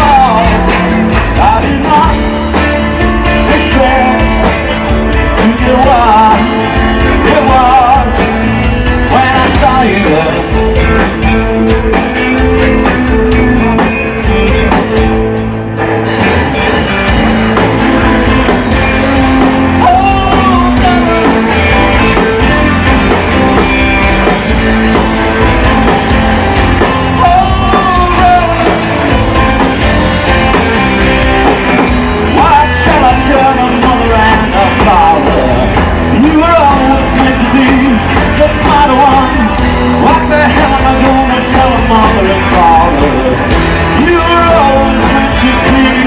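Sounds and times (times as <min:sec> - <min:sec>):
man singing: 0:00.0 - 0:14.6, 0:18.7 - 0:23.1, 0:26.9 - 0:30.9, 0:32.2 - 0:46.0
bass: 0:00.0 - 0:46.0
drums: 0:00.0 - 0:46.0
electric guitars: 0:00.0 - 0:46.0
piano: 0:00.0 - 0:46.0.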